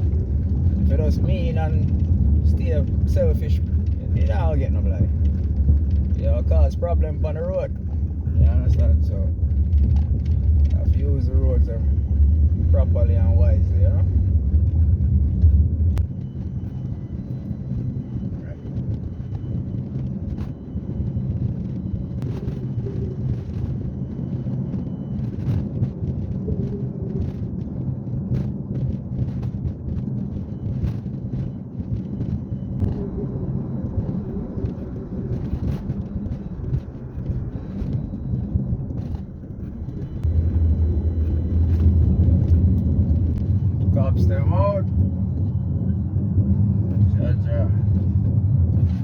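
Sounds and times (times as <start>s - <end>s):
car engine and tyre rumble: 0.0s - 49.0s.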